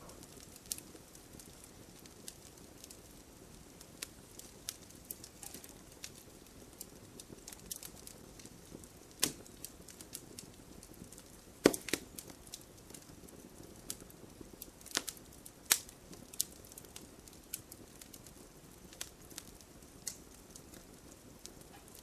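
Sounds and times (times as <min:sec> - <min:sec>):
campfire crackling and popping: 0:00.0 - 0:22.0
low hiss of burning: 0:00.0 - 0:22.0.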